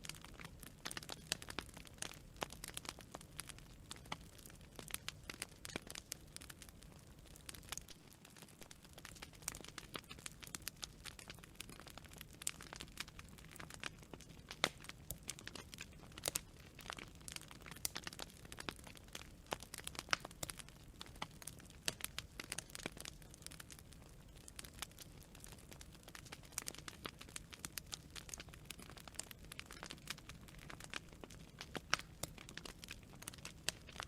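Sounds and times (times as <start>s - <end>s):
campfire snaps and pops: 0.0s - 34.0s
low rumble of flames: 0.0s - 34.0s.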